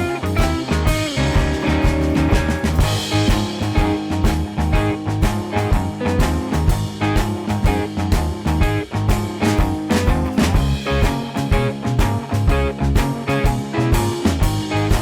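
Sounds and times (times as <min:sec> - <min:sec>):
blues-rock music with guitar and drums: 0:00.0 - 0:15.0.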